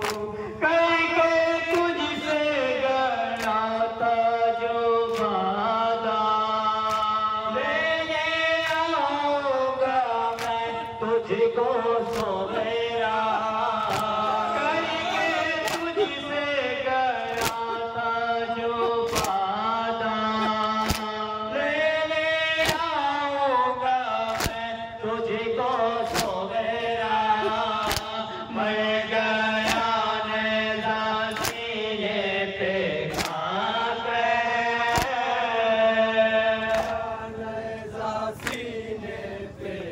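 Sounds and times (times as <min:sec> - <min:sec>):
men singing a lament in unison: 0:00.0 - 0:39.9
rhythmic chest-beating strikes: 0:00.0 - 0:39.9.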